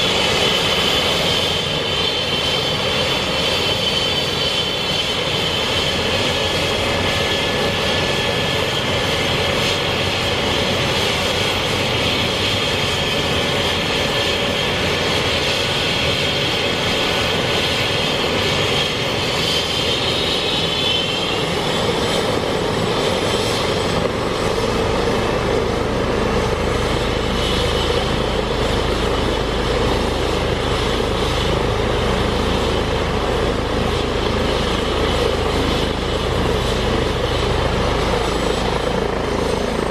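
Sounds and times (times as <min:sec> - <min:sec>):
helicopter rotors rushing: 0:00.0 - 0:39.9
helicopter turbine whine: 0:00.0 - 0:39.9.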